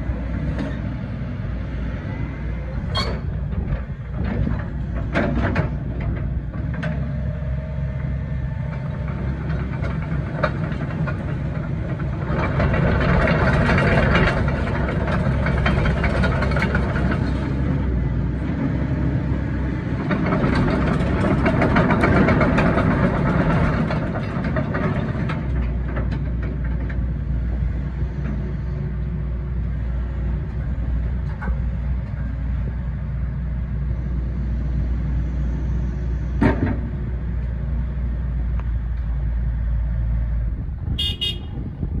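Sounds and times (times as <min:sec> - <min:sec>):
excavator diesel engine drone: 0:00.0 - 0:42.0.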